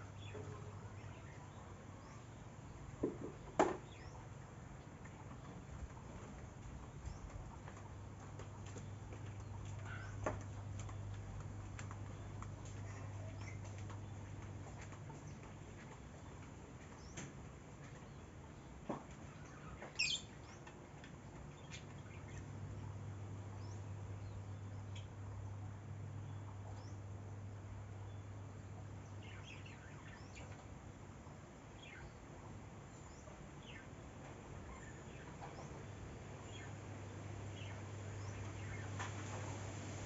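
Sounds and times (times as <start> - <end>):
birds chirping: 0.0 - 20.7, 21.3 - 31.1, 31.7 - 40.0.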